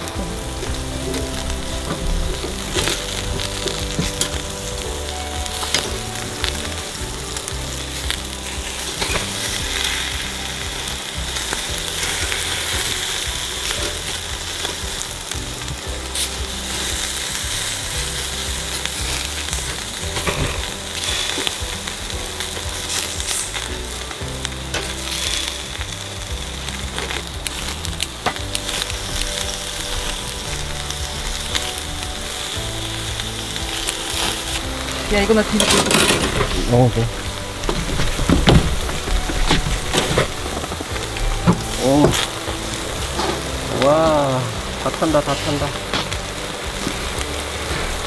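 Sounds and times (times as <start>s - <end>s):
meat sizzling on grill: 0.0s - 48.0s
small crackles and pops: 0.0s - 48.0s.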